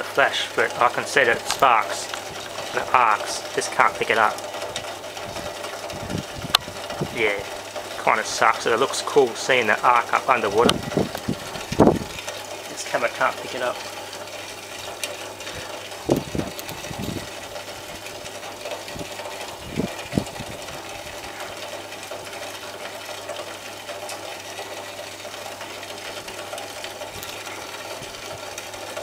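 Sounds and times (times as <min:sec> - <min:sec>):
vacuum cleaner motor running slowly: 0:00.0 - 0:29.0.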